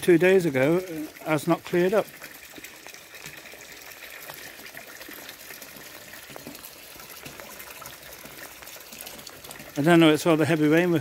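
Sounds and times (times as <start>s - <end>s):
rain drops on pond surface: 0.0s - 11.0s
water running into pond: 0.0s - 11.0s.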